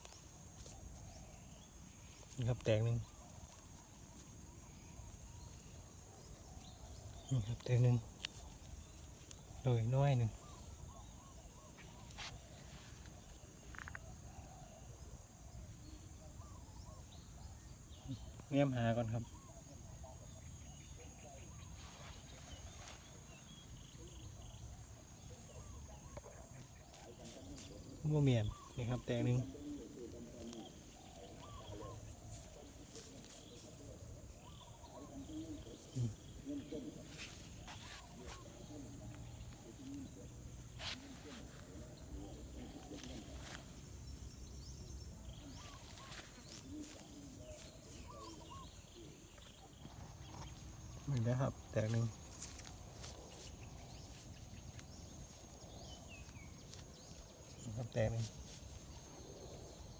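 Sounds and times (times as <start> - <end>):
soft crackles in leaf litter: 0.0 - 14.9, 17.6 - 59.9
faint bird chirps: 0.0 - 59.9.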